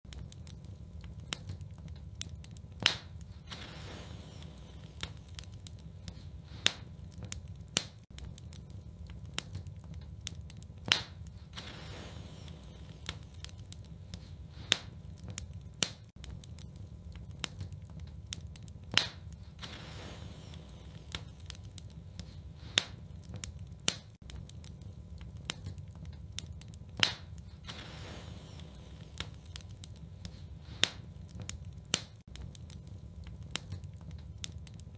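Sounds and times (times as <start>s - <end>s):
fire crackling and popping: 0.0s - 34.9s
low rumble of flames: 0.0s - 34.9s.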